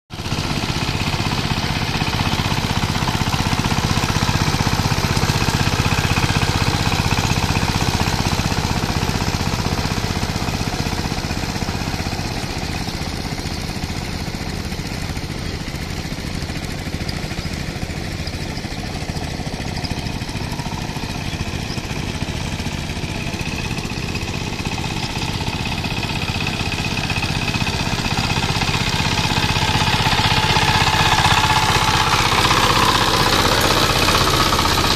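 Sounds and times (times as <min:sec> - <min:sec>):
diesel engine chugging: 0:00.2 - 0:34.9.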